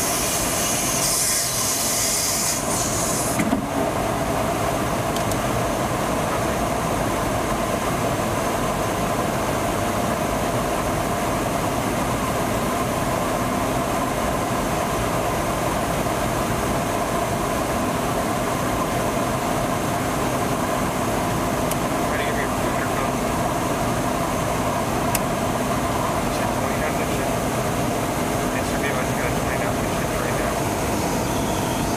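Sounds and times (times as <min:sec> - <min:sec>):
aircraft engine and airflow drone: 0:00.0 - 0:31.9.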